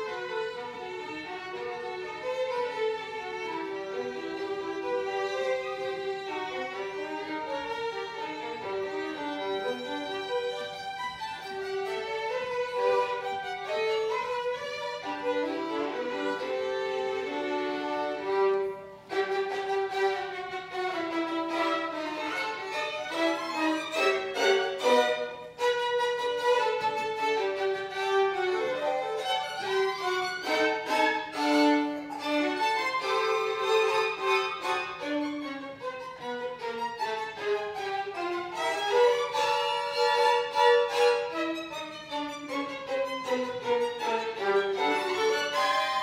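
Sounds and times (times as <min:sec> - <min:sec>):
two violins playing: 0:00.0 - 0:46.0.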